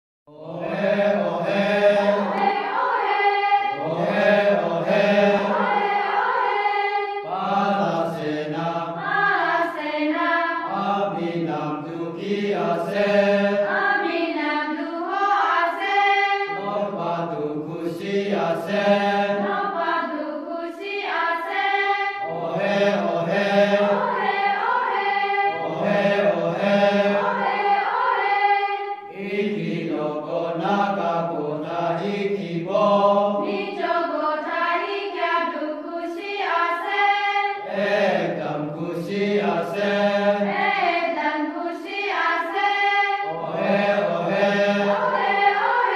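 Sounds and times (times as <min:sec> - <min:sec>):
group singing a chant: 0:00.3 - 0:45.9.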